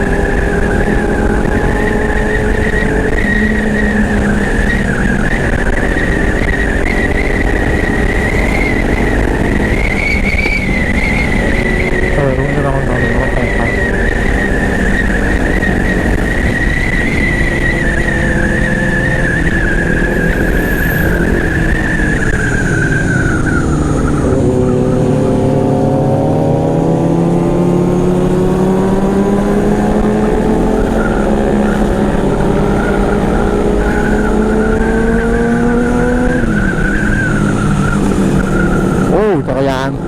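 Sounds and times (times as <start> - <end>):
motorcycle engine at speed: 0.0 - 40.0
wind rush on microphone: 0.0 - 40.0.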